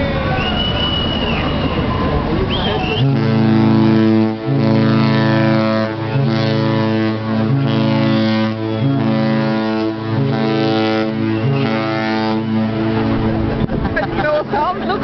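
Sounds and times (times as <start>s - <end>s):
cruise ship horn blasts: 0.6s - 15.0s.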